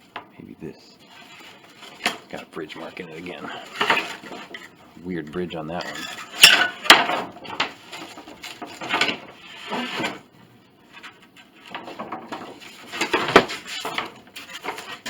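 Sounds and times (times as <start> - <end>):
wooden panels knocking and scraping: 1.0 - 5.0, 5.6 - 15.0.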